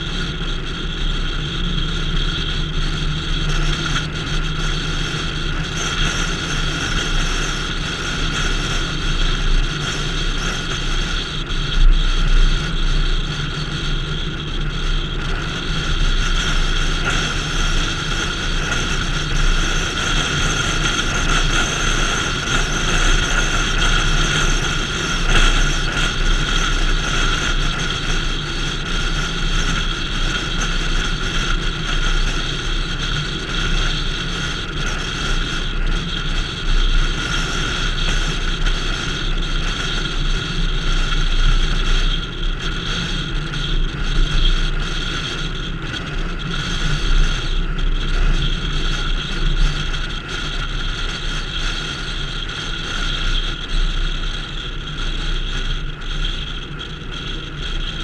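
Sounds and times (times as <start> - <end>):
car road and engine noise: 0.0 - 58.0
faint steady whine: 0.0 - 58.0.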